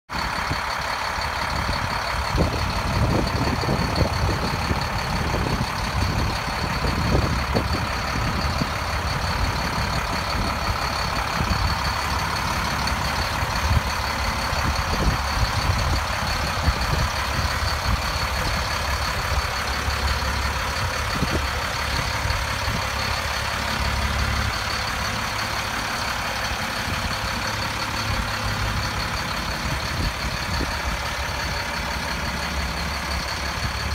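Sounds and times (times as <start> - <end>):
diesel truck engine idling: 0.1 - 33.9
wind buffeting microphone: 0.2 - 33.9.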